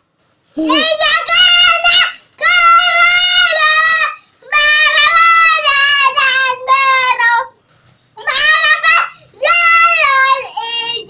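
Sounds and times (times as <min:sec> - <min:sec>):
child singing: 0:00.6 - 0:07.6, 0:08.2 - 0:11.0.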